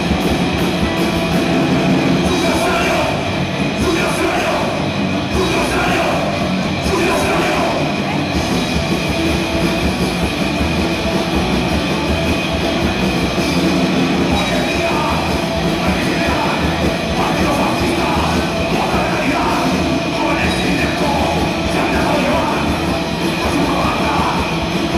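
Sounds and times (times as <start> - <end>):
punk band playing live: 0.0 - 24.9.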